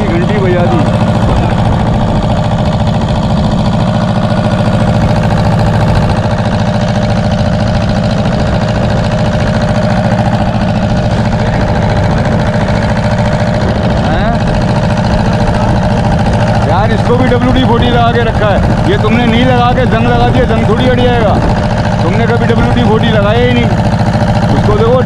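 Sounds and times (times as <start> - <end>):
boat diesel engine running: 0.0 - 25.0.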